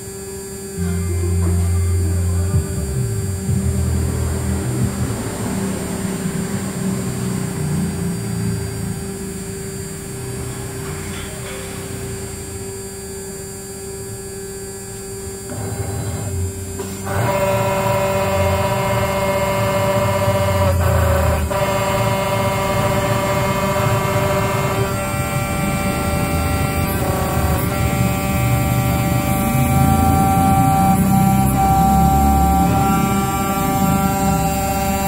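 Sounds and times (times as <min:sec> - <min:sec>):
electric motor whine: 0:00.0 - 0:35.0
steady tones: 0:00.0 - 0:35.0.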